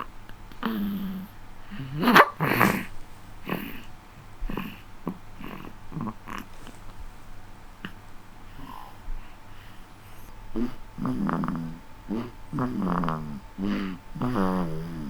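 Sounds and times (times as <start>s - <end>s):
baby snoring and snorting: 0.0s - 7.0s, 7.8s - 9.0s, 9.6s - 15.0s.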